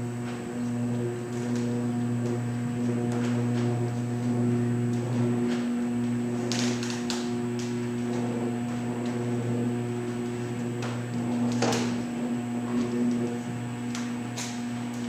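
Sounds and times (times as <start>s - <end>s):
electric drive humming: 0.0s - 15.0s.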